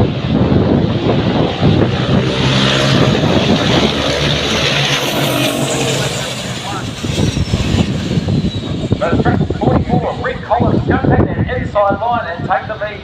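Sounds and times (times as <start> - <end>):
racing truck engines running hard: 0.0 - 11.2.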